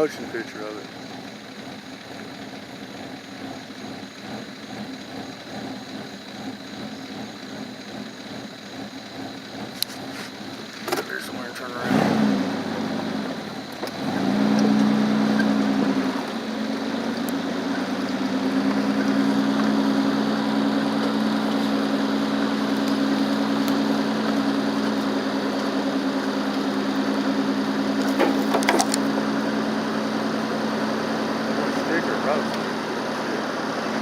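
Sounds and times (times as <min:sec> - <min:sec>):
car engine hum: 0:00.0 - 0:34.0
road and fan noise: 0:00.0 - 0:34.0.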